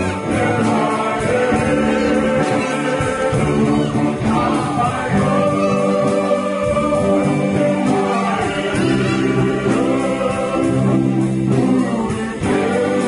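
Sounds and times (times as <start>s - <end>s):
drum kit: 0.0s - 13.0s
electric guitars: 0.0s - 13.0s
voices singing: 0.0s - 13.0s.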